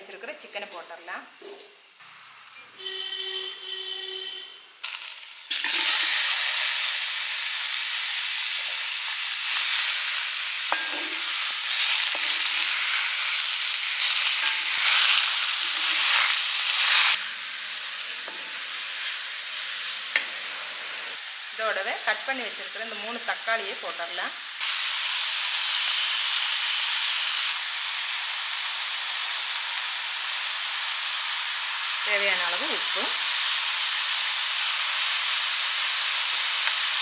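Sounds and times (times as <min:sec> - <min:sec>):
chicken sizzling in a pan: 0:04.8 - 0:37.0.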